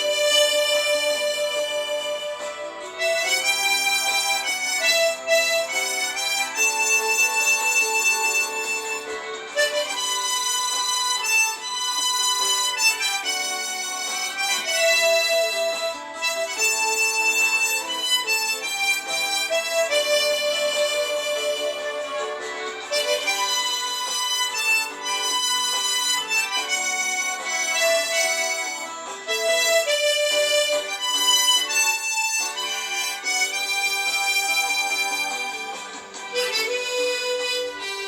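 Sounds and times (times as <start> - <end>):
harmonica playing slow melody: 0.0 - 38.0.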